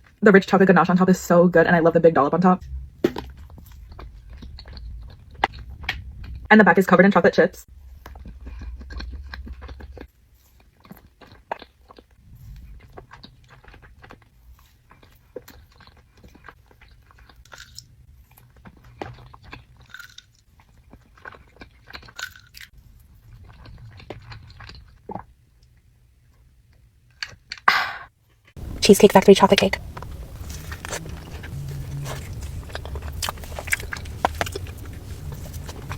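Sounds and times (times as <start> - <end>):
chewing cake: 2.6 - 6.5, 7.7 - 27.6, 28.6 - 35.9.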